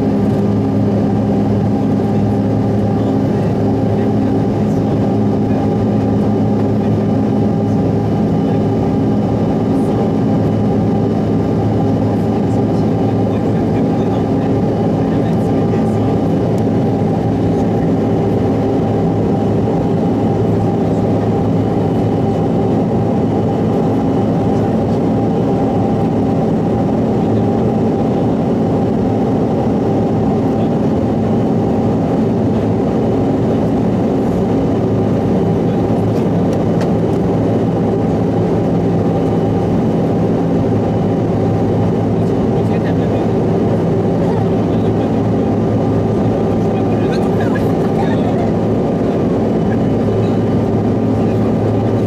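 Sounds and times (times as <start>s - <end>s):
airplane cabin drone: 0.0s - 52.0s
steady hums: 0.0s - 52.0s.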